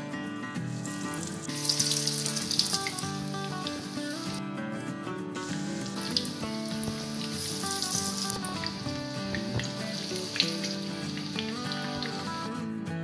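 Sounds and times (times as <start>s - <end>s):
background music: 0.0s - 13.0s
patties sizzling in hot oil: 0.7s - 4.4s, 5.4s - 12.5s.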